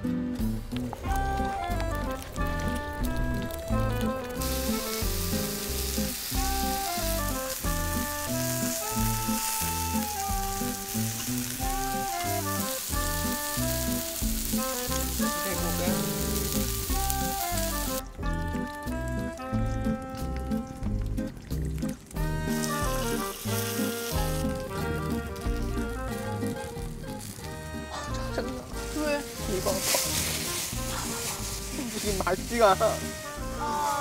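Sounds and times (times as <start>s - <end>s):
background music: 0.0s - 34.0s
meat sizzling on a griddle: 0.4s - 34.0s.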